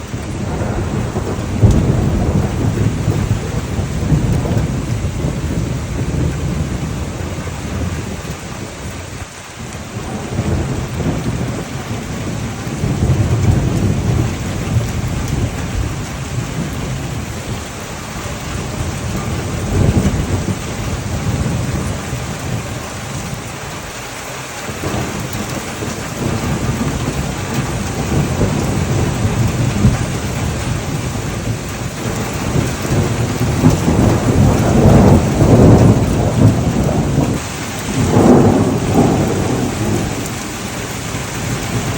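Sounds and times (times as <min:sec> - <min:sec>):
rolling thunder: 0:00.0 - 0:24.0, 0:24.6 - 0:41.9
heavy rain falling: 0:00.0 - 0:41.9.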